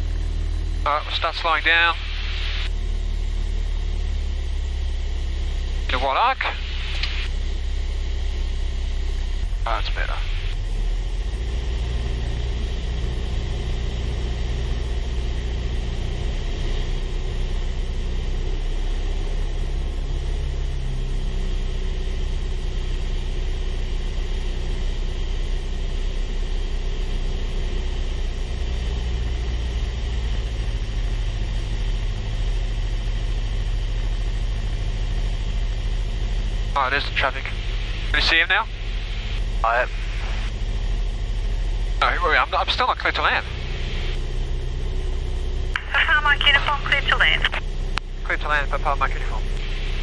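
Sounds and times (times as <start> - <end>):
airplane engine and propeller drone: 0.0 - 50.0.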